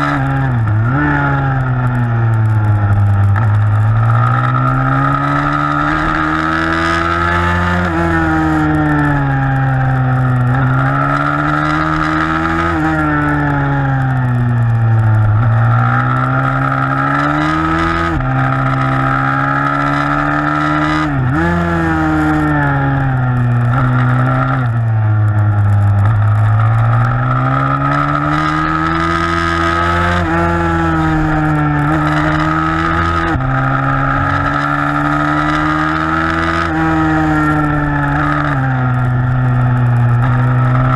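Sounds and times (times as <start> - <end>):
pitbike engine racing: 0.0 - 40.9.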